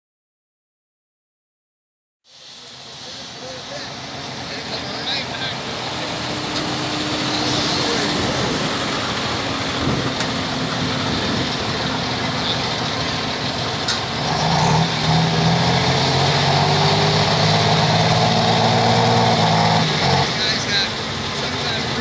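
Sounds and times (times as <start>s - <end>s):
diesel tractor engine running hard: 2.5s - 22.0s.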